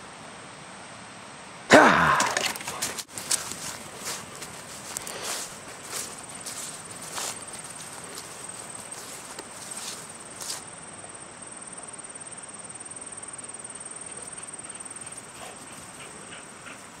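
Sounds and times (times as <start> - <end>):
insects trilling: 3.1 - 17.0.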